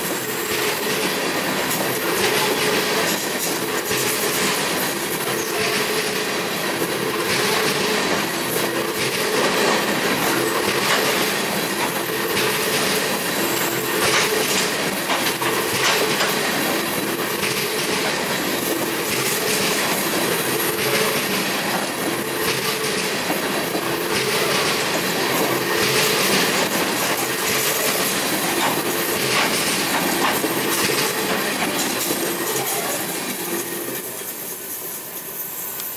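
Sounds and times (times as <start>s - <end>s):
freight wheels rumbling on rail: 0.0s - 35.9s.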